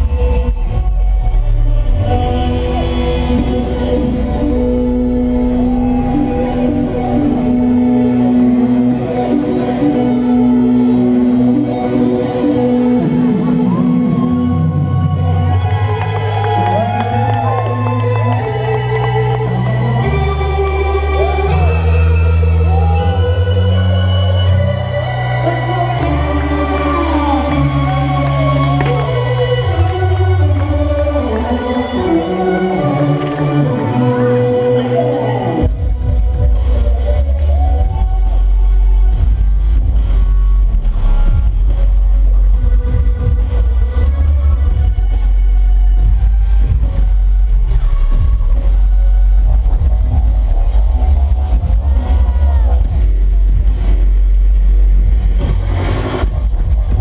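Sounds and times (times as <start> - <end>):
heavy bass line: 0.0 - 57.0
loud dance music: 0.0 - 57.0.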